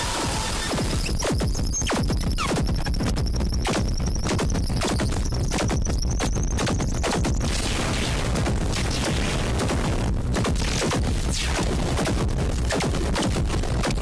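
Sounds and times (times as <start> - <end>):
harsh electronic noise music: 0.0 - 14.0
rapid stuttering clicks: 0.6 - 14.0.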